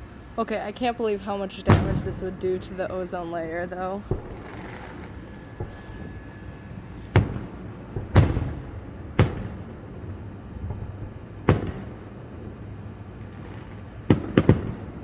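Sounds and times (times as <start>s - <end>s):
fireworks booming: 0.0s - 15.0s.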